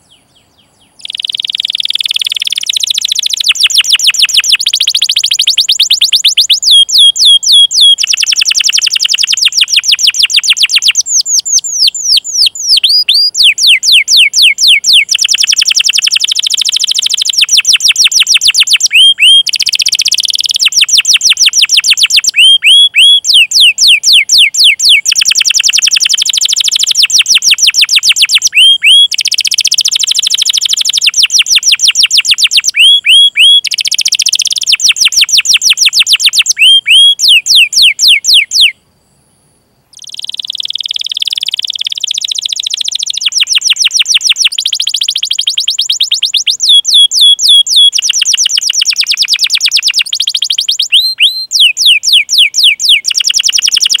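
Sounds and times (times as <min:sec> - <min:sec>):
canary trilling: 0:00.0 - 0:38.8, 0:39.9 - 0:54.0
sharp down-sweeping chirps: 0:00.8 - 0:38.8, 0:39.9 - 0:54.0.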